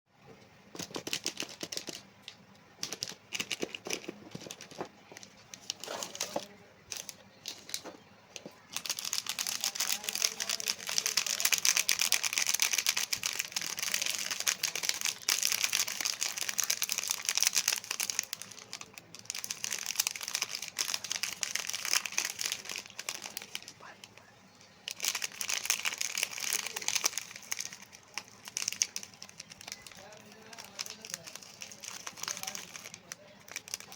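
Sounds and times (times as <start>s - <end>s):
cookie packet crinkling: 0.8s - 33.9s.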